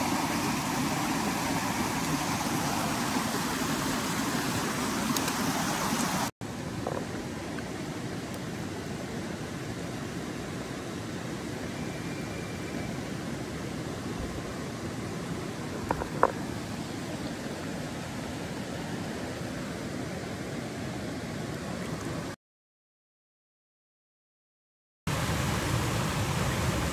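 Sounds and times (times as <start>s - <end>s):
stream rushing over rocks: 0.0s - 22.4s, 25.1s - 26.9s.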